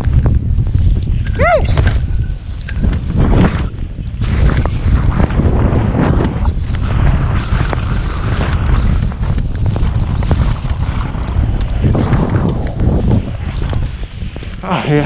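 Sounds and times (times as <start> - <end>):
wind buffeting microphone: 0.0 - 15.0
skis sliding over snow: 1.8 - 15.0.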